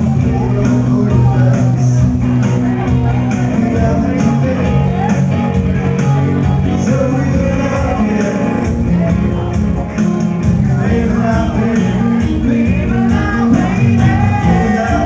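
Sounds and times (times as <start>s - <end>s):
guitars playing: 0.0s - 15.0s
man singing: 0.0s - 15.0s
percussive beat: 0.0s - 15.0s.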